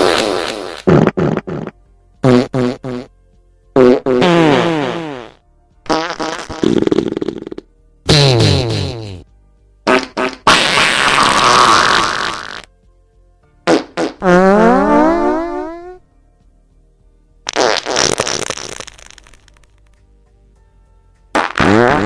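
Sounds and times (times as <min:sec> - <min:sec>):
farts: 0:00.0 - 0:03.1, 0:03.8 - 0:12.7, 0:13.6 - 0:16.0, 0:17.5 - 0:20.0, 0:21.3 - 0:22.0.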